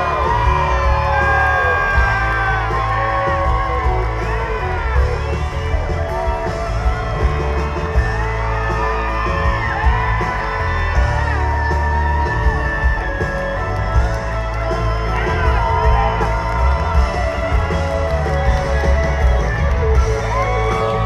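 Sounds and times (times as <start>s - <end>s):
heavy steady bass: 0.0s - 21.0s
live country band playing: 0.0s - 21.0s.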